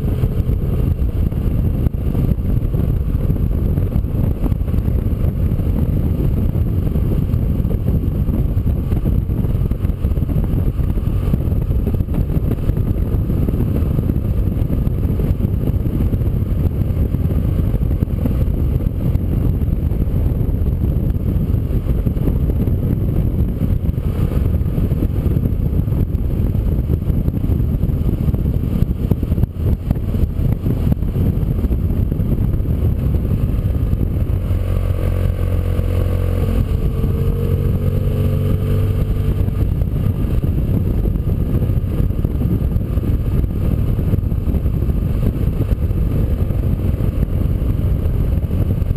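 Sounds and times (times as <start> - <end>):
motorcycle engine: 0.0 - 48.9
wind noise on microphone: 0.0 - 48.9.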